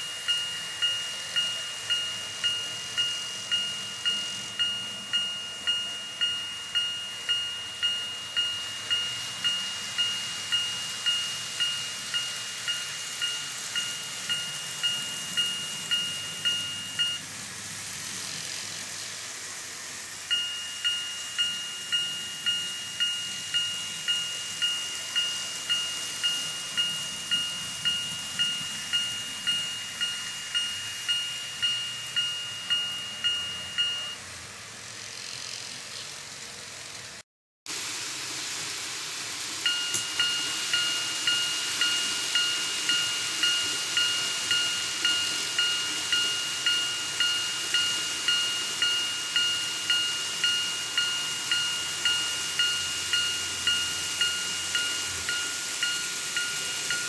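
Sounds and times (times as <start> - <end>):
level crossing warning bell: 0.0 - 17.4, 19.6 - 34.4, 39.6 - 57.0.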